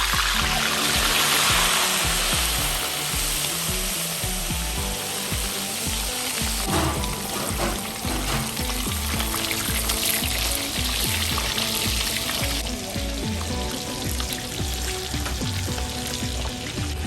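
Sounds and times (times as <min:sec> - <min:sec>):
background music with beat: 0:00.0 - 0:17.0
fish sizzling in hot oil: 0:00.0 - 0:17.0.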